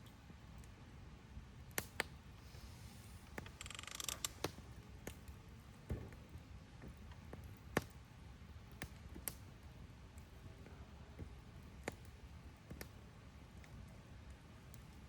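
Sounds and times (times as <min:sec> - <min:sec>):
campfire crackling and popping: 0:01.4 - 0:15.0.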